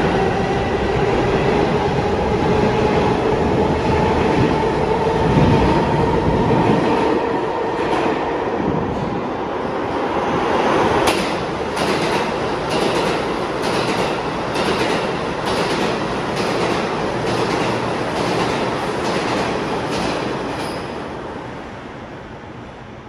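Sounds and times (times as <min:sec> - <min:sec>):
subway train wheels clacking: 0:00.0 - 0:23.0
train rumble: 0:00.0 - 0:23.0.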